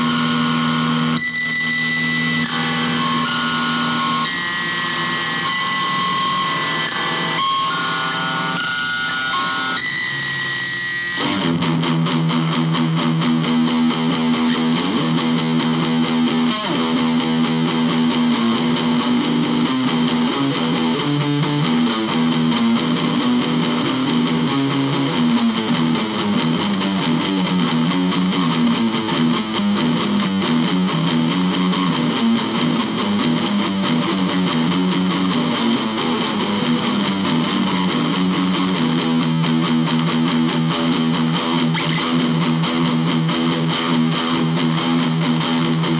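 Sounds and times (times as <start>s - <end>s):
electric guitar playing: 0.0s - 45.9s.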